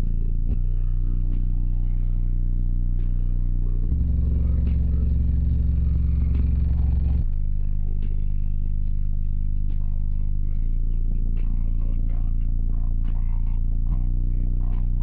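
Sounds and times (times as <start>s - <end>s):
deep bass notes from subwoofers: 0.0s - 15.0s.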